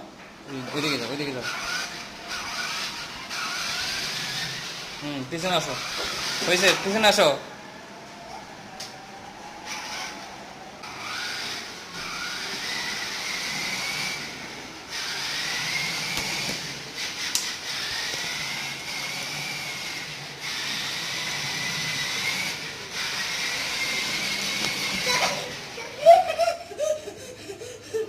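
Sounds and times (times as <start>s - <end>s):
electric motor whining: 0.5s - 26.1s.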